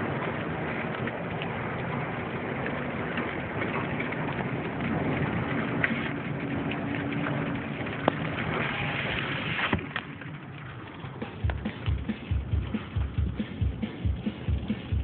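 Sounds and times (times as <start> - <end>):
raindrops ticking on vehicle: 0.0 - 15.0.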